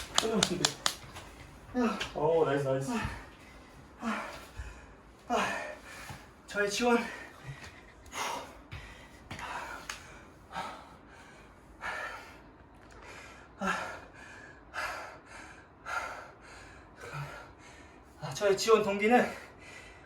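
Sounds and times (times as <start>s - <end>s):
man breathing hard: 2.8s - 18.2s, 19.1s - 20.0s.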